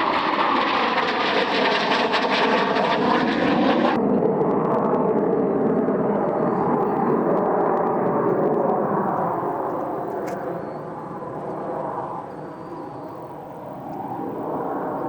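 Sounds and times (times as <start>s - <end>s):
military jet flying past: 0.0s - 15.0s.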